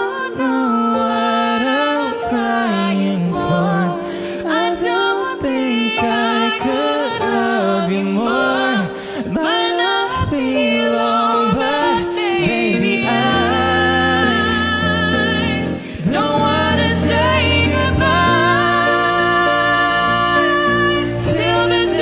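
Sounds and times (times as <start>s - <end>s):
harmony backing vocals: 0.0s - 22.0s
soft backing music: 0.0s - 22.0s.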